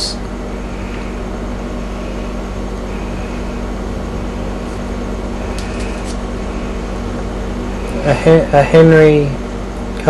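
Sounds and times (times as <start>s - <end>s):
mechanical hum with hiss: 0.0s - 10.0s.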